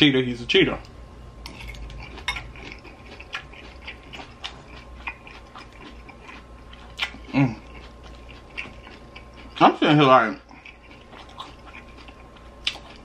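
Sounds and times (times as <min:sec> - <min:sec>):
person chewing with mouth clicks: 0:01.5 - 0:09.6, 0:10.4 - 0:13.0.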